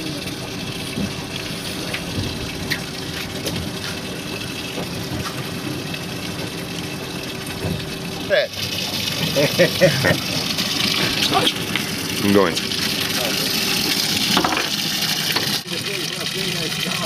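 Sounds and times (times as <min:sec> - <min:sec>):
boat motor hum: 0:00.0 - 0:17.0
rushing water: 0:00.0 - 0:17.0.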